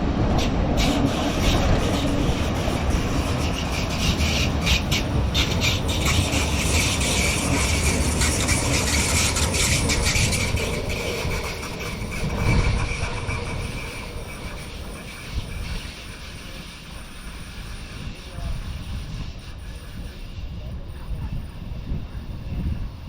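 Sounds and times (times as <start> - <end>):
train wheels rumbling on rails: 0.0 - 23.0
high wheel squeal: 0.8 - 23.0.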